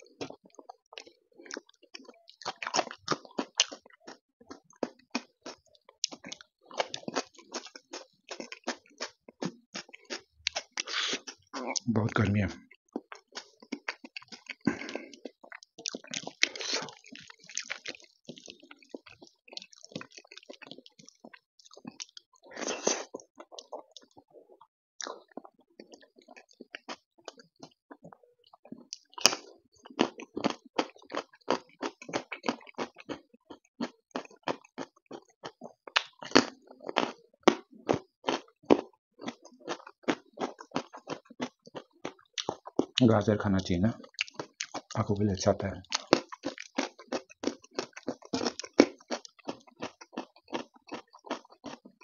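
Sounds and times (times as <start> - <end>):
crisp crunches of chewing: 0.0 - 52.0
wet chewing: 0.0 - 52.0.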